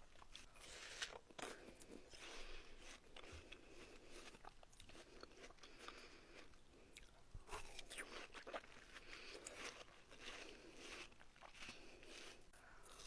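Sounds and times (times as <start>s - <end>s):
watermelon crunching and chewing: 0.0s - 13.0s.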